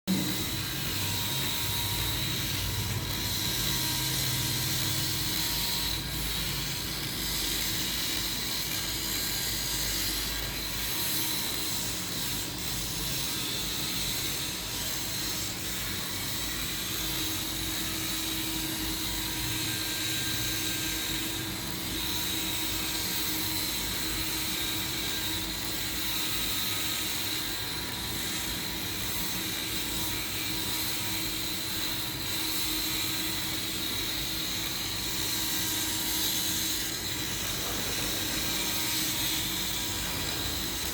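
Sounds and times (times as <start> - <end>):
machine hum with high whine: 0.1 - 40.9.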